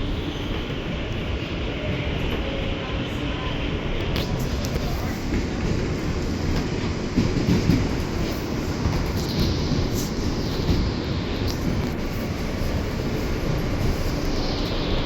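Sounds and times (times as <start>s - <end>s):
subway train wheels rumbling on rail: 0.0s - 15.0s.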